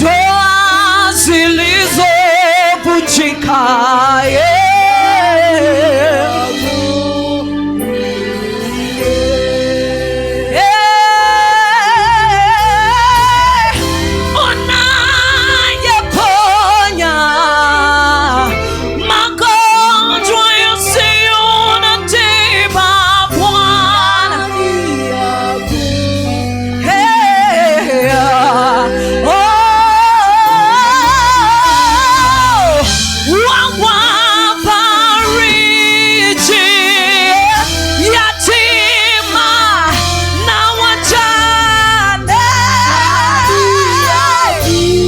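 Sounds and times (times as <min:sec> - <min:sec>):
band with steady bass: 0:00.0 - 0:45.0
person singing with vibrato: 0:00.0 - 0:45.0.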